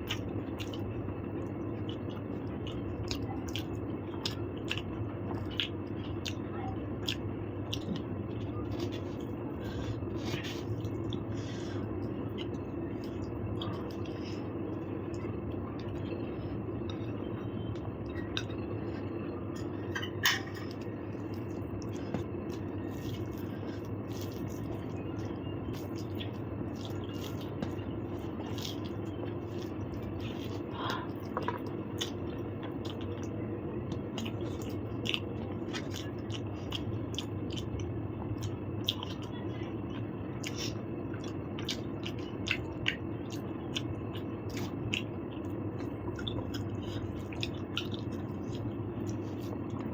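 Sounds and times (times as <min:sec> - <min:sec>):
person chewing and eating: 0:00.0 - 0:06.4, 0:07.0 - 0:49.9
steady low hum: 0:00.0 - 0:49.9.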